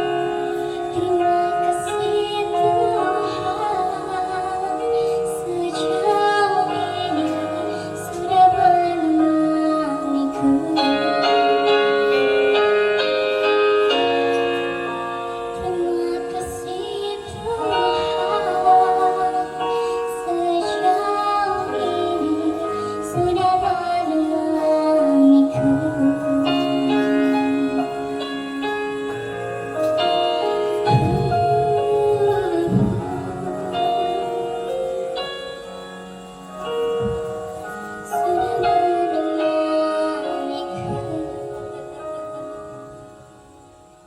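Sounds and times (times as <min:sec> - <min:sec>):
woman singing: 0:00.0 - 0:14.6, 0:15.4 - 0:35.9, 0:38.0 - 0:43.0
musical accompaniment: 0:00.0 - 0:44.0.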